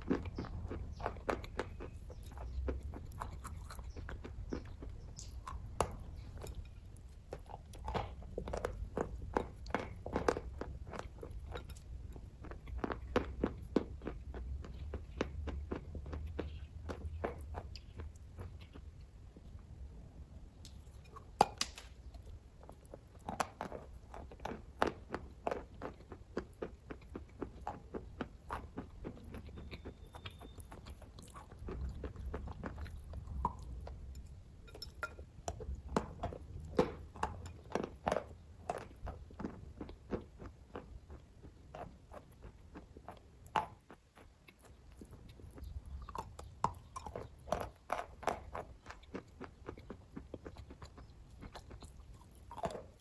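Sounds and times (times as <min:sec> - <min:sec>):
person chewing: 0:00.0 - 0:19.6, 0:20.6 - 0:53.0.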